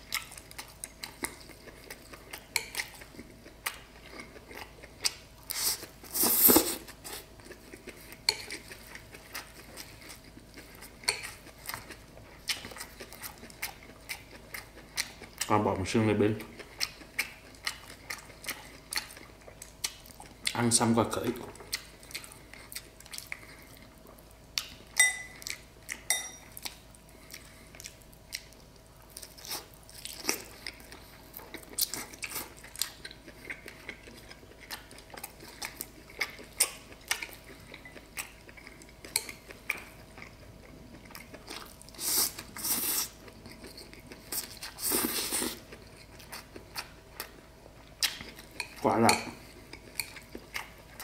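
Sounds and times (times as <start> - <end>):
chewing: 0.0 - 15.6, 16.4 - 20.7, 21.4 - 51.0.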